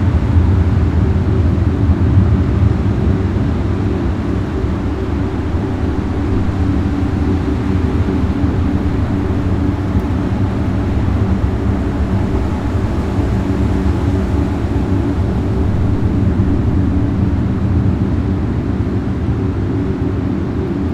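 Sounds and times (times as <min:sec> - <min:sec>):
low droning rumble: 0:00.0 - 0:20.9
held low tones: 0:03.8 - 0:20.9.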